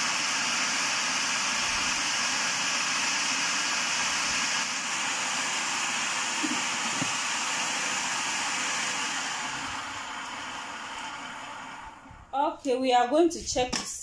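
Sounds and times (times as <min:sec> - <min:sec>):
food processor running: 0:00.0 - 0:12.3.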